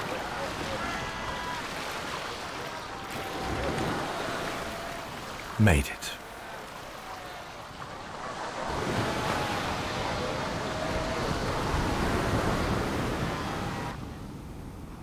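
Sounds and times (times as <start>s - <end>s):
waves washing in shallows: 0.0s - 14.9s.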